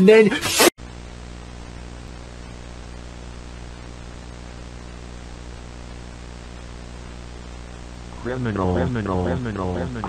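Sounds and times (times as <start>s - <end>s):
mains hum with hiss: 0.1s - 10.0s.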